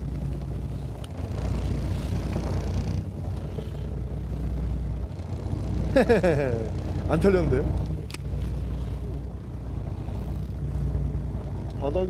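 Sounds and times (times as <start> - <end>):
boat engine idling: 0.0 - 12.0
sea noise: 0.0 - 12.0.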